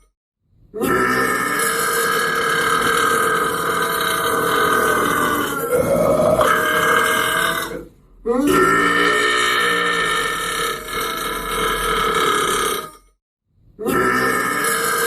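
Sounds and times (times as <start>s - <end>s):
man burping: 0.8s - 13.0s, 13.8s - 15.0s.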